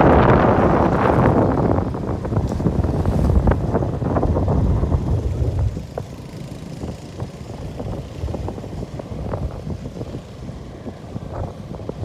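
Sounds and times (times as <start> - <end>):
wind rumbling on microphone: 0.0 - 12.0
motorcycle running: 0.1 - 12.0.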